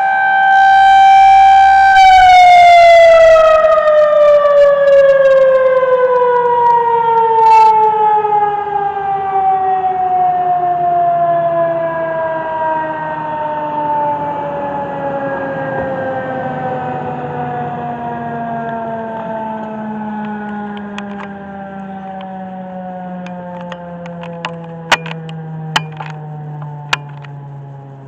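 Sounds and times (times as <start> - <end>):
warning siren winding down: 0.0 - 28.0.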